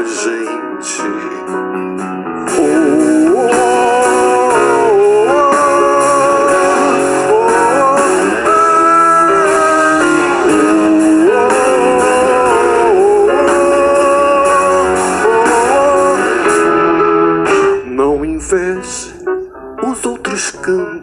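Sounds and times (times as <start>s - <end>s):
guitar-led band music: 0.0s - 21.0s.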